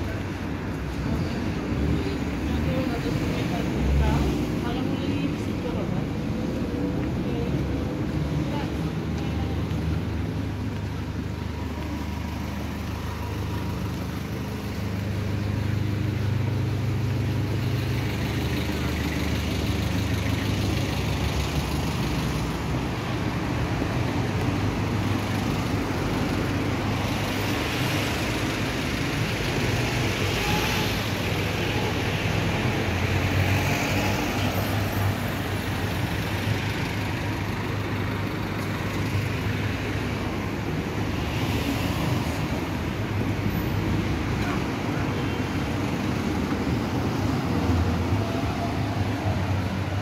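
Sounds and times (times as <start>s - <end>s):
cars passing: 0.0s - 50.0s
steady low traffic rumble: 0.0s - 50.0s.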